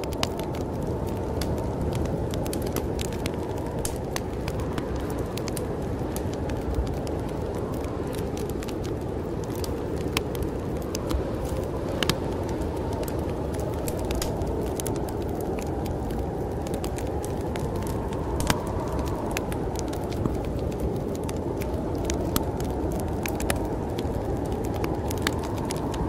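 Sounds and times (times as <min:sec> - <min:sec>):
fire popping: 0:00.0 - 0:26.0
snowstorm wind rushing: 0:00.0 - 0:26.0
wood fire crackling: 0:00.0 - 0:26.0.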